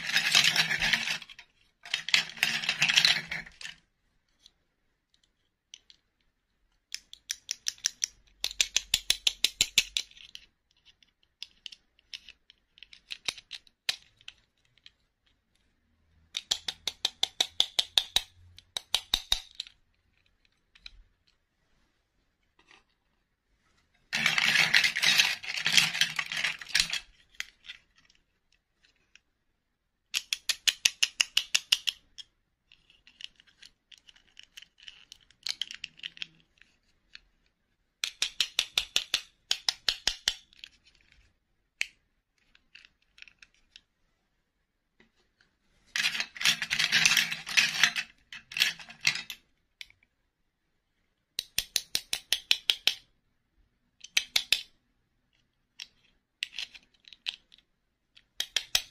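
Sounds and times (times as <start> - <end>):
plastic dolls clicking and rattling: 0.0 - 21.4, 24.1 - 29.3, 30.0 - 43.9, 45.9 - 50.1, 51.3 - 53.1, 53.8 - 58.9.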